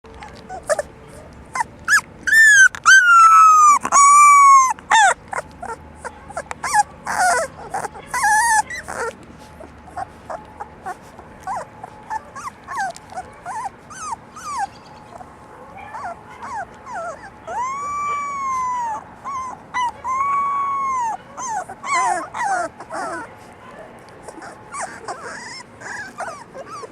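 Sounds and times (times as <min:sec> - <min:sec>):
puppies whining: 0:00.1 - 0:26.9
puppies yipping: 0:00.2 - 0:26.9.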